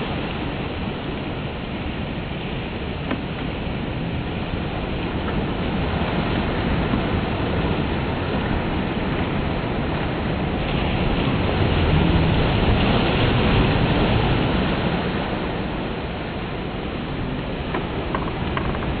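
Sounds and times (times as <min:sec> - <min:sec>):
waves washing up a beach: 0:00.0 - 0:19.0.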